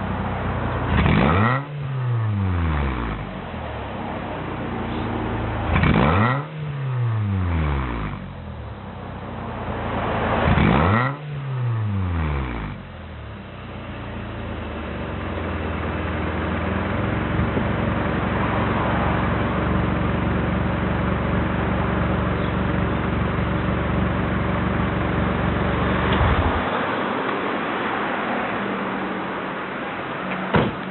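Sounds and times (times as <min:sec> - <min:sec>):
car engine revving: 0:00.6 - 0:03.7, 0:04.4 - 0:08.5, 0:09.7 - 0:13.0, 0:13.8 - 0:28.3.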